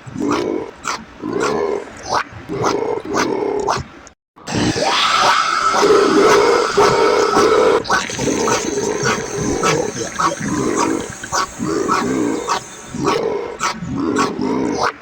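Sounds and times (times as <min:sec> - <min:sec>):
comic animal-like vocal noises: 0:00.0 - 0:15.0.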